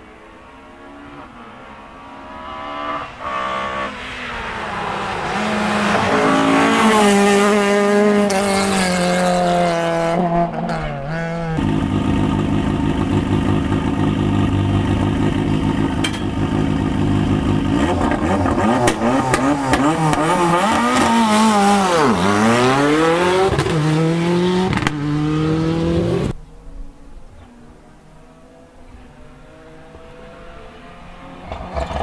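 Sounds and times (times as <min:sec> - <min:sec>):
rally car engine revving: 0:00.9 - 0:26.4, 0:27.6 - 0:32.0.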